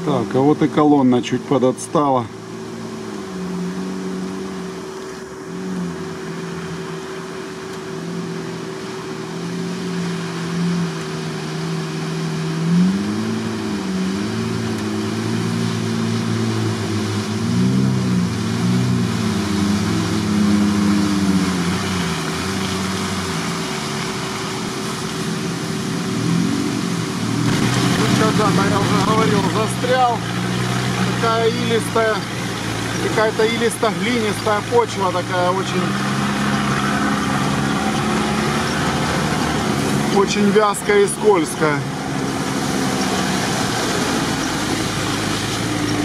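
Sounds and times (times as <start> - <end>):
off-road engines revving: 0.0 - 46.0
steady engine hum: 0.0 - 46.0
water splashing: 0.0 - 46.0.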